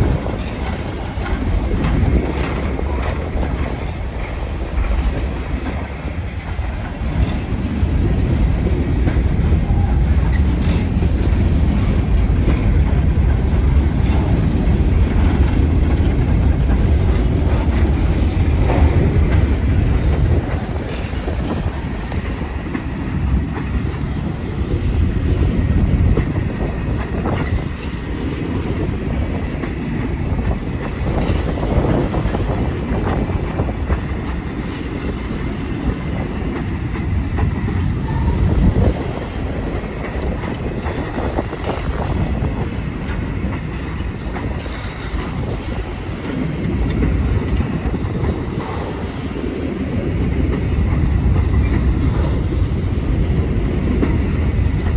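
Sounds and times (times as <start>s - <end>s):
train rumbling past: 0.0s - 54.9s
wheels clicking over rail joints: 0.0s - 54.9s.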